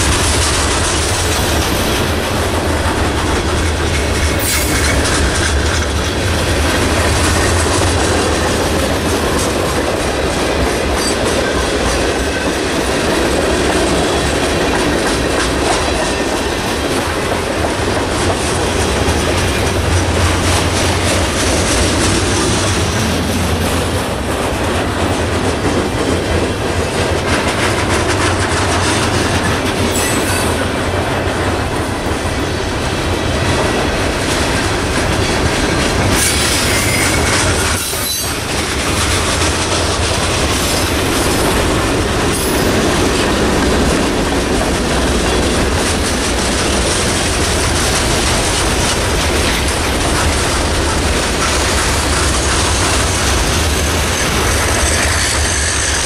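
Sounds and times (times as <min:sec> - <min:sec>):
clickety-clack over rail joints: 0:00.0 - 0:56.0
steel wheels rumbling on rail: 0:00.0 - 0:56.0.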